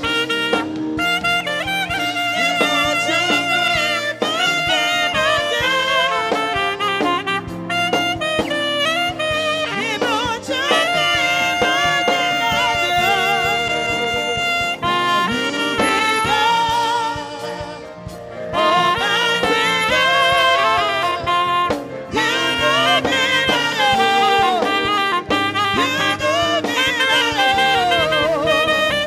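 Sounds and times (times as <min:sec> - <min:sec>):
live band playing: 0:00.0 - 0:29.0
saxophone melody: 0:00.0 - 0:29.0.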